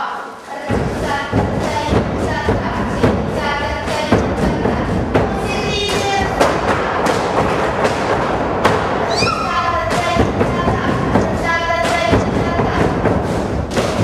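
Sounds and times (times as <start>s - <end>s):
folk dance music: 0.2s - 14.0s.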